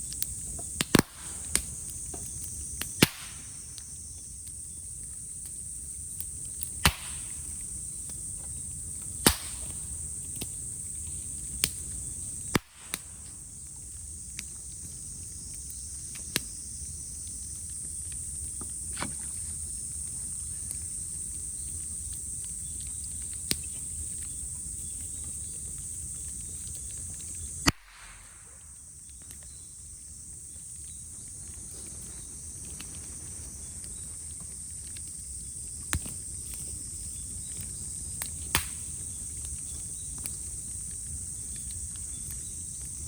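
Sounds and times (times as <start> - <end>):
bamboo cracking in bonfire: 0.0 - 43.0
cicadas droning: 0.0 - 43.0.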